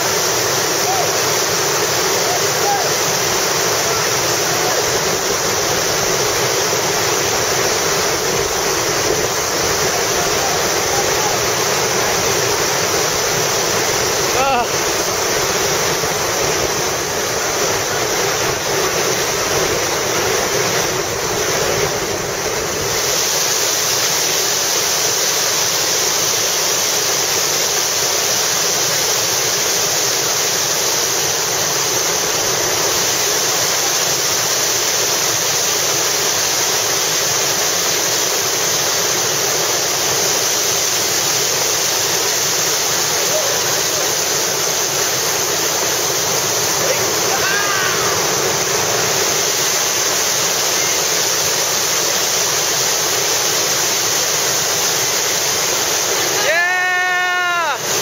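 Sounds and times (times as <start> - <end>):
whitewater rapids rushing: 0.0 - 58.0.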